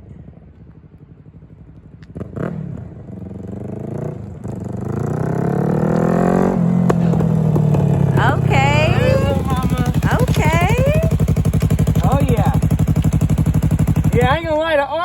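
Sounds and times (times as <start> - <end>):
motorcycle engine accelerating: 0.2 - 15.0.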